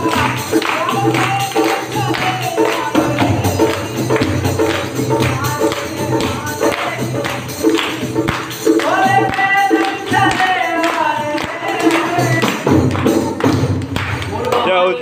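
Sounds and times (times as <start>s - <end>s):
male voices singing: 0.0s - 7.8s, 8.7s - 13.1s
barrel drum: 0.0s - 14.4s
frame drum beating: 0.0s - 14.5s.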